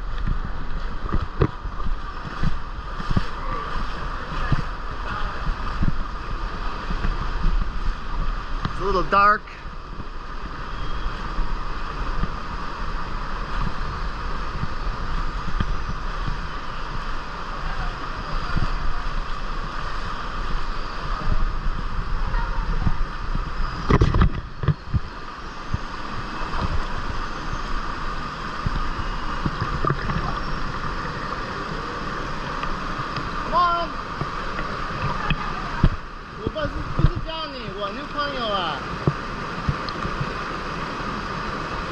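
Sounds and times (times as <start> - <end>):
wind buffeting microphone: 0.0 - 8.8, 9.7 - 37.5
river water rushing: 0.0 - 41.9.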